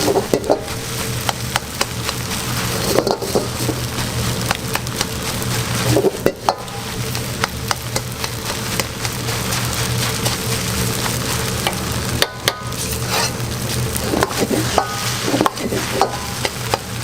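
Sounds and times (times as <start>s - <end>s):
rice sizzling in a pan: 0.0s - 17.0s
spatula scraping a pan: 0.0s - 17.0s.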